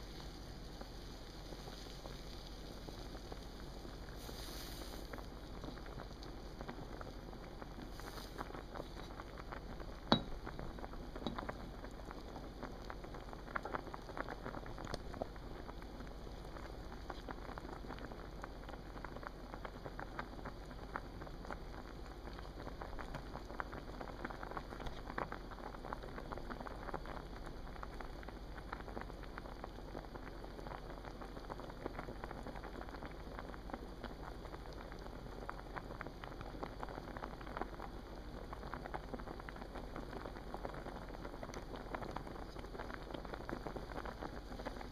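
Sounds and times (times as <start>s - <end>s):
water boiling with bubbles popping: 0.0s - 44.9s.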